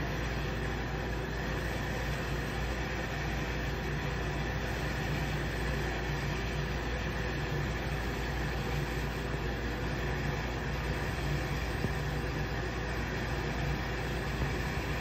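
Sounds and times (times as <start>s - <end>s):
dishwasher running: 0.0s - 15.0s.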